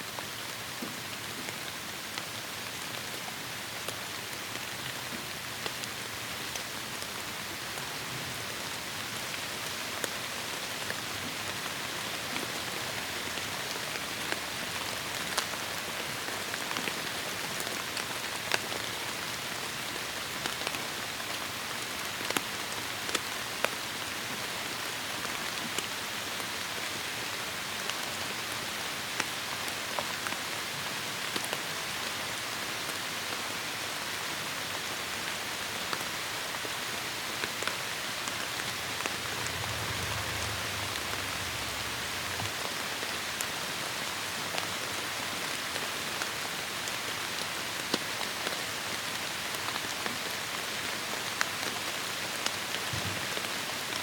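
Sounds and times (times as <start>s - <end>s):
heavy rain on foliage: 0.0s - 54.0s.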